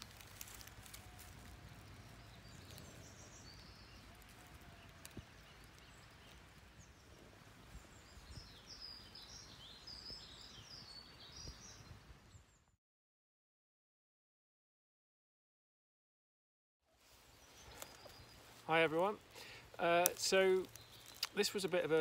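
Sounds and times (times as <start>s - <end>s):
faint woodland ambience: 0.0s - 12.8s, 16.8s - 22.0s
small bird chirping: 0.0s - 12.8s, 17.1s - 22.0s.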